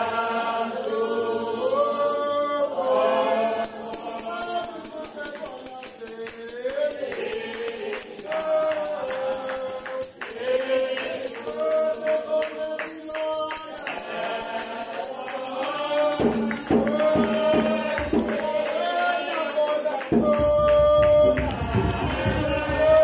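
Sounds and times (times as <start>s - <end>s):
congregation singing a hymn: 0.0s - 23.0s
tambourine shaken: 0.0s - 23.0s.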